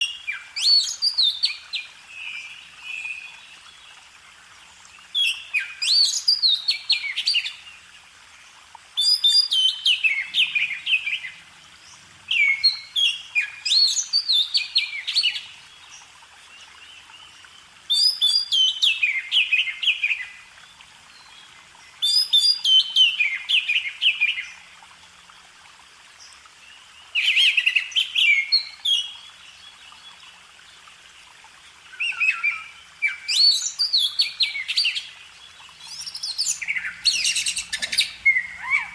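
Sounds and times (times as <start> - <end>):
songbird singing: 0.0 - 25.2, 26.2 - 38.9.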